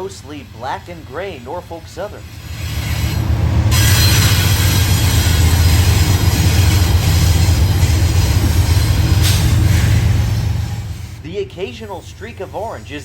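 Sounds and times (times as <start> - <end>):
train engine rumble: 0.0 - 13.0
wheels rushing on rails: 0.0 - 13.0.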